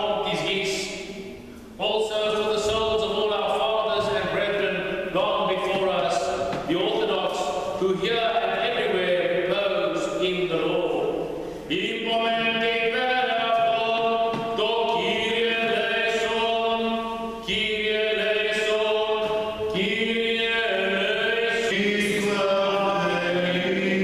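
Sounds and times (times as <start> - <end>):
man chanting: 0.0 - 1.0, 1.8 - 24.0.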